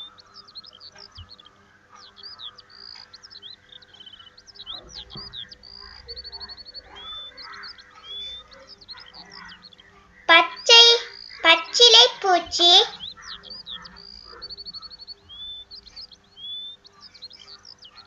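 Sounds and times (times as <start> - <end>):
small birds chirping and whistling: 0.0 - 18.0.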